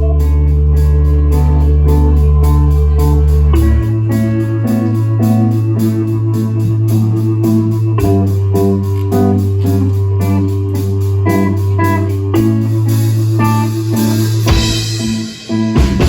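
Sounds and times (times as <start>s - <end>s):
guitar chords repeating: 0.0s - 16.0s
held bass notes: 0.0s - 16.0s
organ-like keyboard: 0.0s - 16.0s.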